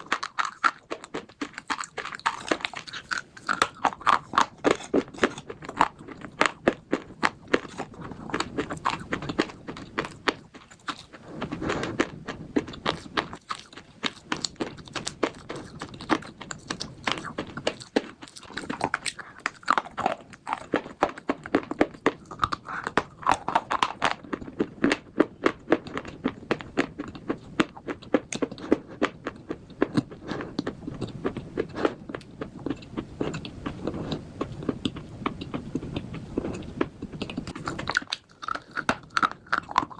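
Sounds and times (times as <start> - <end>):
chewing crunches: 0.0 - 39.9.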